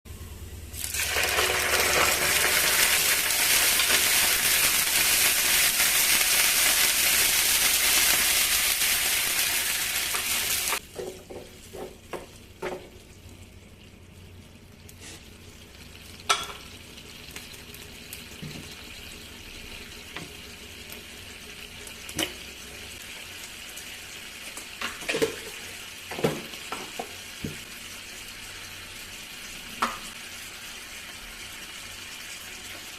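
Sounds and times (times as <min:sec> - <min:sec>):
food sizzling in a pan: 0:00.4 - 0:32.9.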